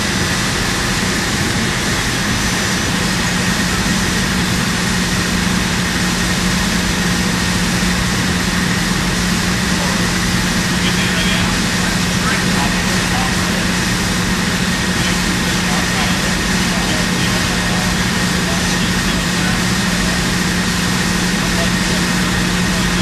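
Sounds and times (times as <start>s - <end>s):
faint high whine: 0.0s - 23.0s
machinery droning: 0.0s - 23.0s.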